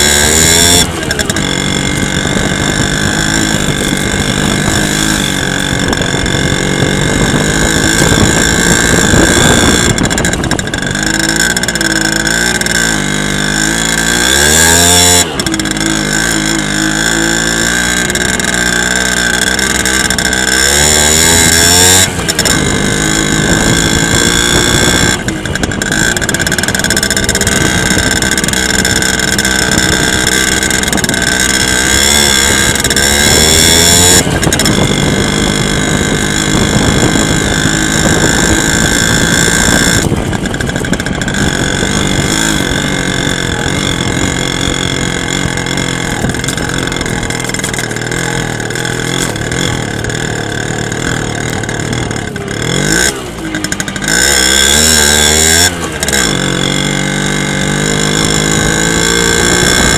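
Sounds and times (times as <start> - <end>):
moped engine revving: 0.0 - 59.9.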